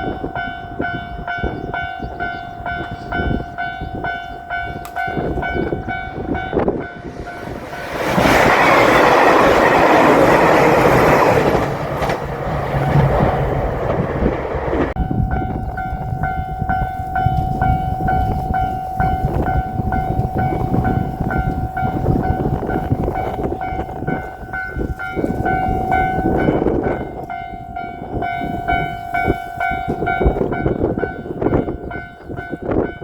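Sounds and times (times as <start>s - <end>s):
diesel train rumbling past: 0.0s - 33.0s
railroad crossing bell ringing: 0.0s - 33.0s.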